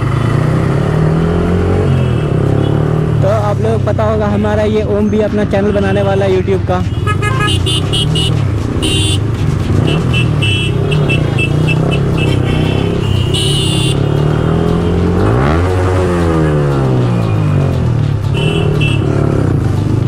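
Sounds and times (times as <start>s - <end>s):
motorcycle engine revving: 0.0s - 4.2s, 6.8s - 20.0s.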